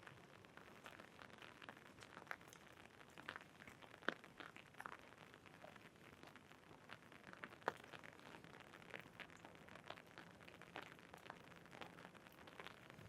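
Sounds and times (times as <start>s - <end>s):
raindrops ticking on an umbrella: 0.0s - 13.0s.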